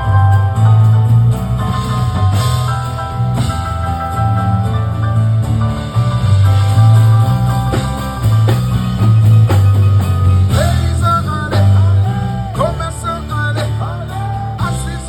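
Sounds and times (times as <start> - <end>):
deep sustained bass notes: 0.0 - 15.0
drum kit: 0.0 - 15.0
guitar with bending notes: 0.0 - 15.0.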